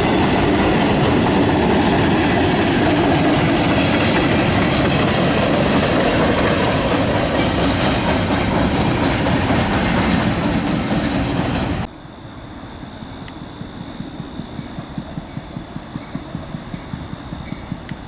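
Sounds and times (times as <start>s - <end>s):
train wheels rumbling on rail: 0.0s - 11.9s, 13.6s - 18.0s.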